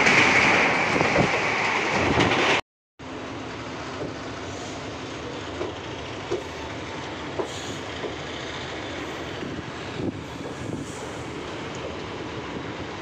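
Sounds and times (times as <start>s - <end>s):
wheels clacking over rail joints: 0.0s - 2.6s, 3.5s - 13.0s
train coach rumbling: 0.0s - 13.0s.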